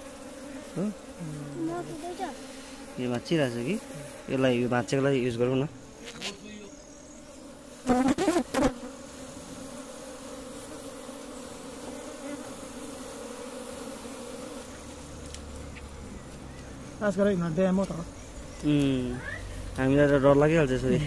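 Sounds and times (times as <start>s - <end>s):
honey bees buzzing: 0.0s - 21.0s.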